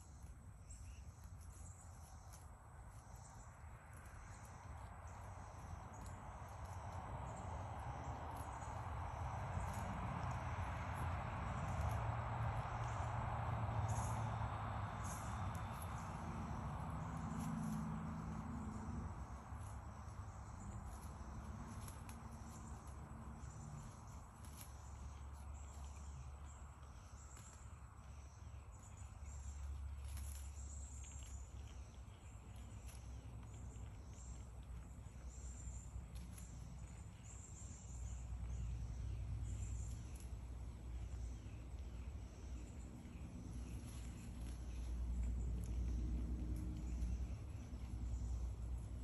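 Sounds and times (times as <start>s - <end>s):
insects chirping: 0.0s - 49.0s
low rumble: 0.0s - 49.0s.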